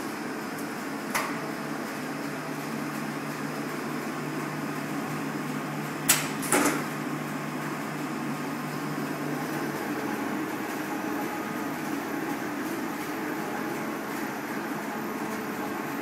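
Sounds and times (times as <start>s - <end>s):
printing press mechanical hum: 0.0s - 16.0s.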